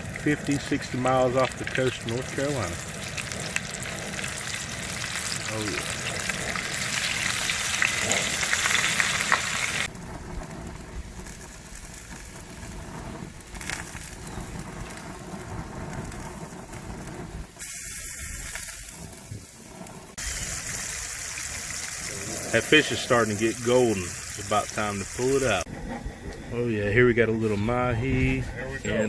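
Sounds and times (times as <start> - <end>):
fish frying in hot oil: 0.0 - 25.7.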